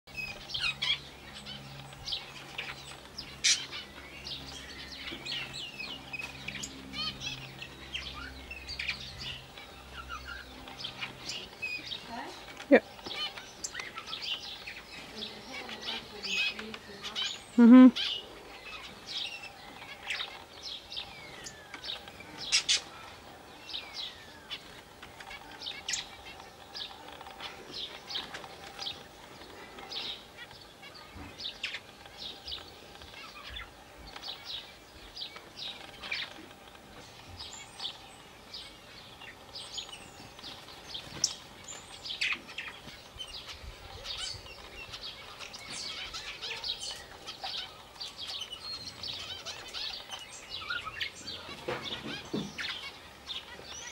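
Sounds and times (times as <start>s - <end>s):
birds chirping: 0.1s - 53.9s.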